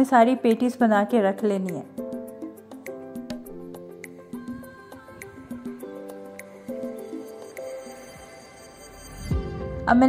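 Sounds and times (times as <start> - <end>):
held chords background music: 0.0 - 10.0.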